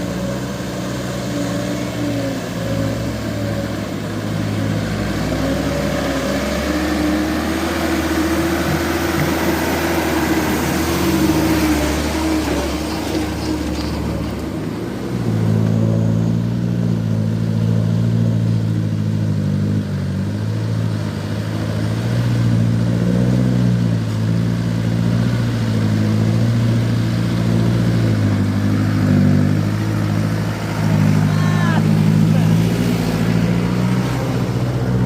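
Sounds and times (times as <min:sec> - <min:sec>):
truck engine running under load: 0:00.0 - 0:35.0.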